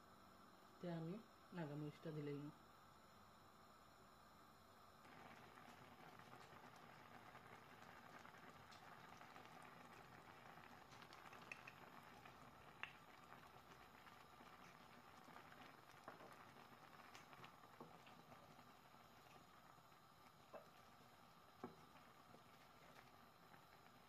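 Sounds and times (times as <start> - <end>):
curry bubbling in a pan: 3.6 - 24.0.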